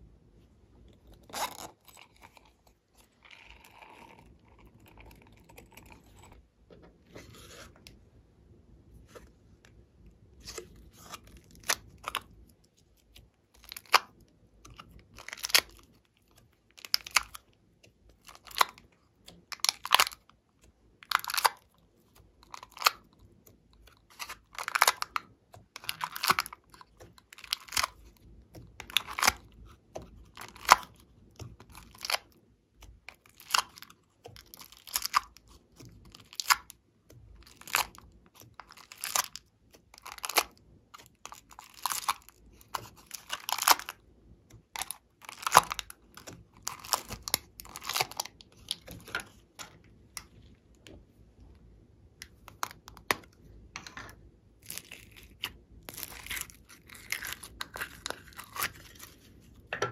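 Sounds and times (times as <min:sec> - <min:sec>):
crunchy slime squishes: 0:00.3 - 0:08.0, 0:08.9 - 0:59.8.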